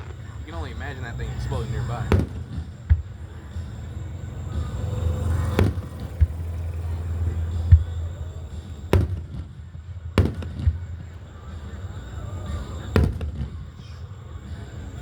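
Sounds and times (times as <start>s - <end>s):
fireworks booming: 0.0s - 15.0s
low rumble: 0.0s - 15.0s.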